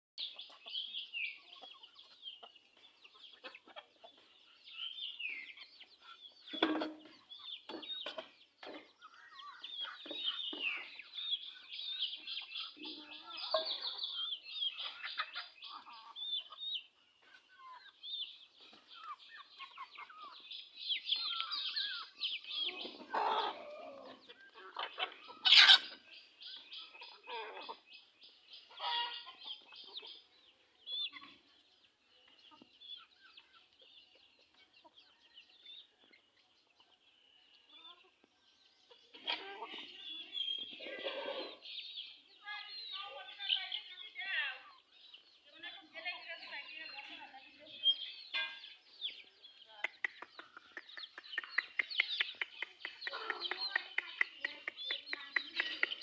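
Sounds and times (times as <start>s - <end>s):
chickens peeping and clucking: 0.2s - 56.0s.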